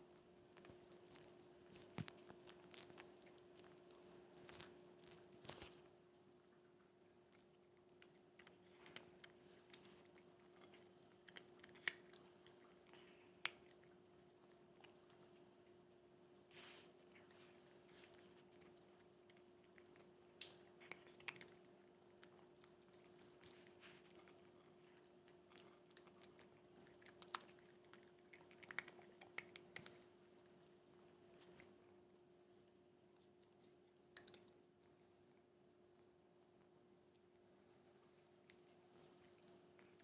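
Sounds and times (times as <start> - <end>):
chewing and crunching: 0.0 - 5.9, 6.8 - 40.0
faint steady hum: 0.0 - 40.0.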